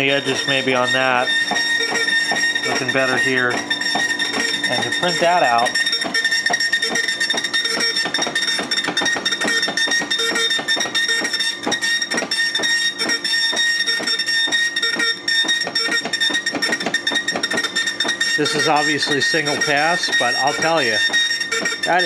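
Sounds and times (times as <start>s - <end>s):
dot matrix printer printing: 0.0s - 22.0s.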